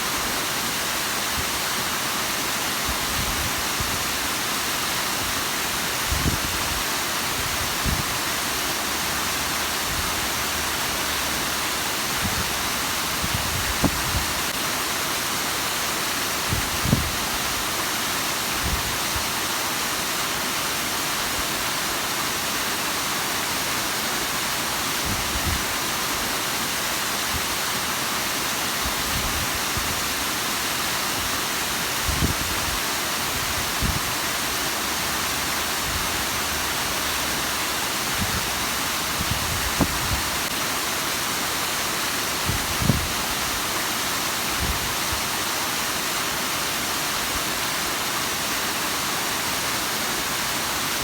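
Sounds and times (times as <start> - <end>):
waterfall rushing and splashing: 0.0 - 51.0.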